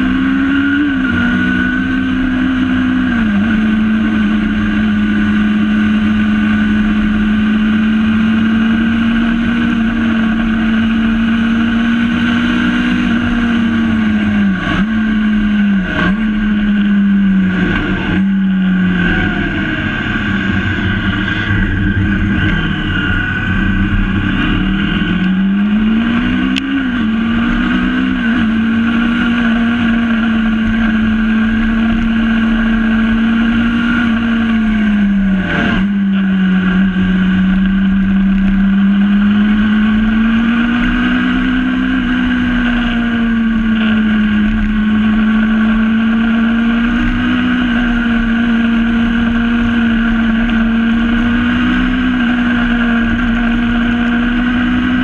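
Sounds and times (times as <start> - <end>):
road and wind noise: 0.0 - 55.0
vehicle engine revving: 0.0 - 55.0.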